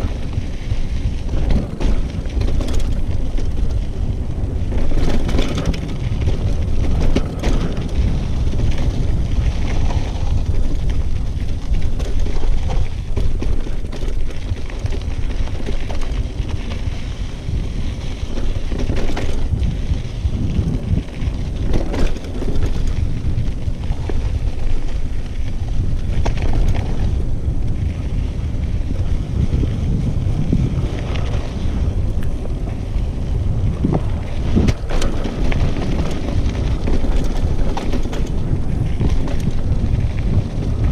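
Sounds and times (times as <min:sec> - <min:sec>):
bike knocking over bumps: 0:00.0 - 0:28.0, 0:33.7 - 0:40.9
bike tyre rumble: 0:00.0 - 0:40.9
wind buffeting microphone: 0:00.0 - 0:40.9.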